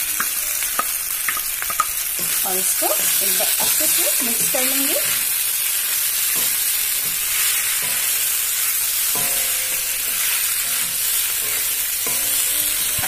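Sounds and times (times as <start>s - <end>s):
food sizzling in a pan: 0.0s - 13.0s
spatula scraping a pan: 0.3s - 13.0s.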